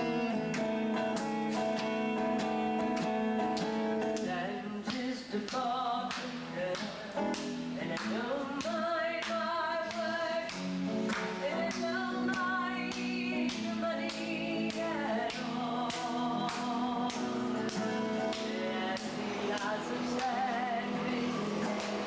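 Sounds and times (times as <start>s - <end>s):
guitar strumming: 0.0s - 5.0s, 5.7s - 22.0s
person singing: 0.0s - 22.0s.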